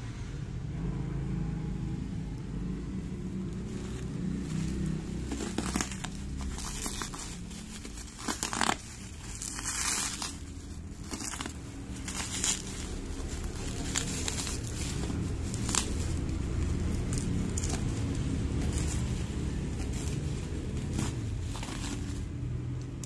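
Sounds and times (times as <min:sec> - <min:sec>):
low rumble: 0:00.0 - 0:23.0
plastic bag and bubble wrap crinkling: 0:03.1 - 0:23.0.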